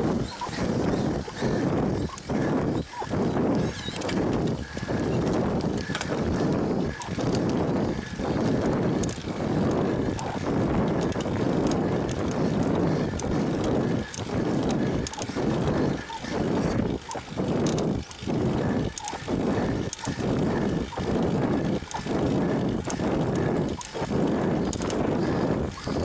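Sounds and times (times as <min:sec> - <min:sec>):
person breathing hard: 0:00.0 - 0:26.0.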